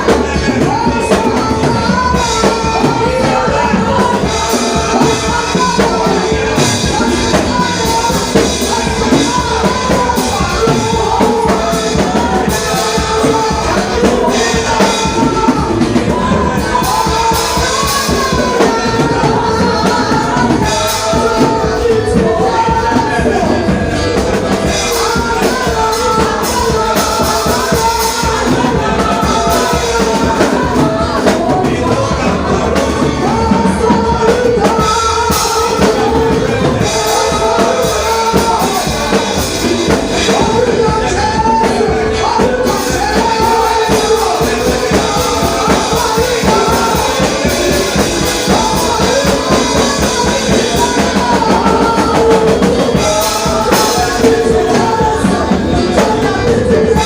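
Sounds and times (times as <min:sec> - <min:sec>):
drum kit: 0:00.0 - 0:57.0
person singing: 0:00.0 - 0:57.0.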